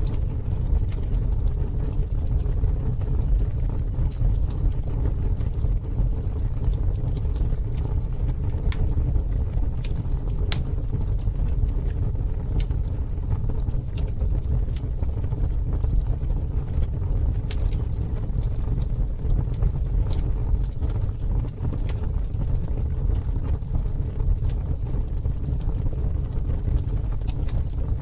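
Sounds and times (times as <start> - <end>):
burning wood crackling and popping: 0.0 - 28.0
campfire rumble: 0.0 - 28.0.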